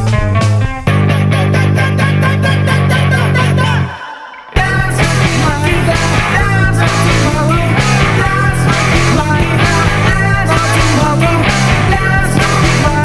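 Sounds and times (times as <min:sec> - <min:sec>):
rock song on guitar and bass: 0:00.0 - 0:03.9, 0:04.6 - 0:13.0
wailing vocals: 0:01.2 - 0:13.0.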